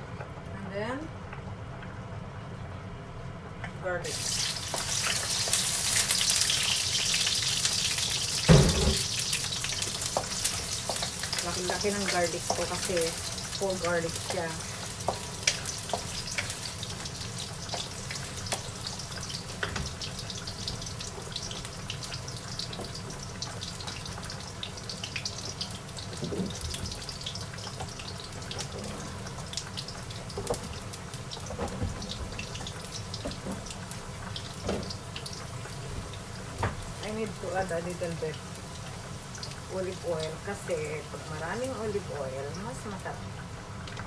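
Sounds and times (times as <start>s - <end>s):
garlic sizzling in hot oil: 4.0s - 44.0s.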